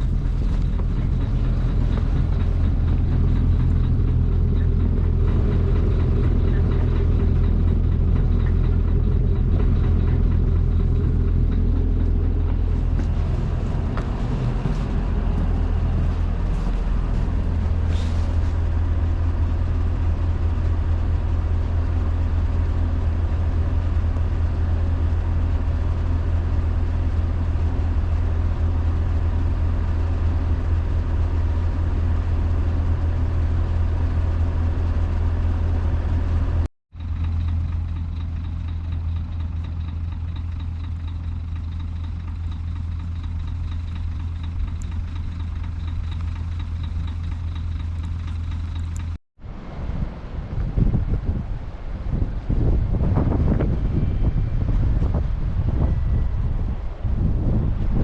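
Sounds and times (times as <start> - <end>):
road and cabin noise: 0.0 - 58.0
vehicle engine drone: 0.0 - 58.0.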